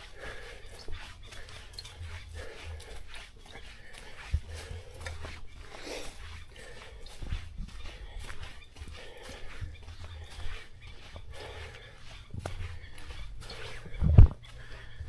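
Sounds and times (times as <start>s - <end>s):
footsteps on a trail: 0.0s - 15.0s
steady low rumble: 0.0s - 15.0s.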